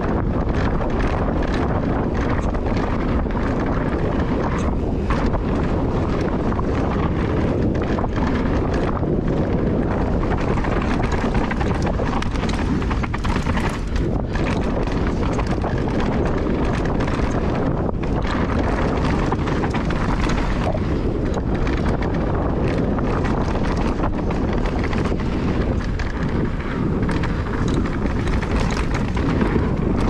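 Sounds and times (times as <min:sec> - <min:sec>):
bike rattling over stones: 0:00.0 - 0:30.0
wind buffeting microphone: 0:00.0 - 0:30.0
tyre noise on dirt: 0:00.1 - 0:30.0.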